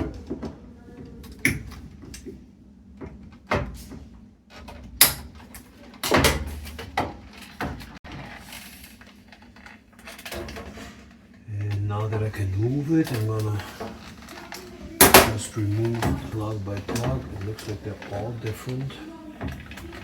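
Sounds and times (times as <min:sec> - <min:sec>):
plastic and metal parts rattling: 0:03.1 - 0:20.0.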